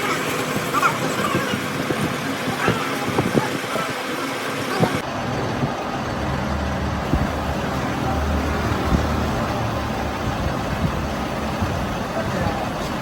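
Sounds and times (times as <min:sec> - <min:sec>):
low mechanical engine rumble: 0:00.0 - 0:13.0.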